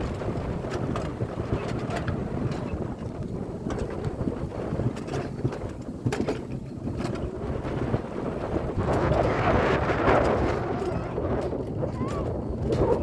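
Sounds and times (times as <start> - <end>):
sled rumbling on steel rails: 0.0 - 13.0
wind buffeting microphone: 0.0 - 13.0.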